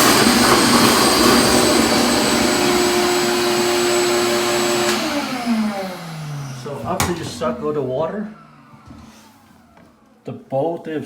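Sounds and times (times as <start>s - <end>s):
vacuum motor running: 0.0s - 10.0s.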